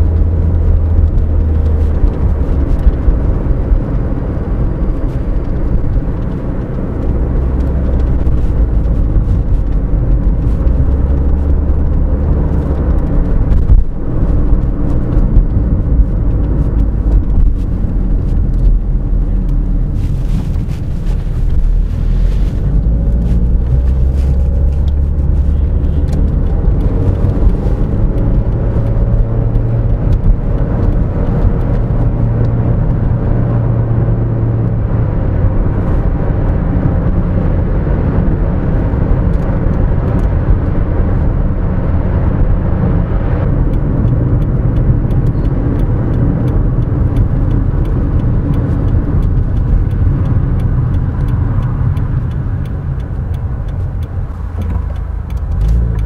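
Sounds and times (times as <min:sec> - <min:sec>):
car engine drone: 0:00.0 - 0:56.0
tyre and road noise: 0:00.0 - 0:56.0.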